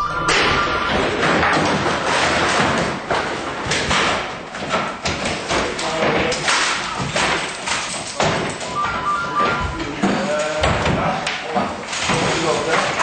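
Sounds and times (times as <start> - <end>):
heavy thuds and bangs: 0.1 - 11.2.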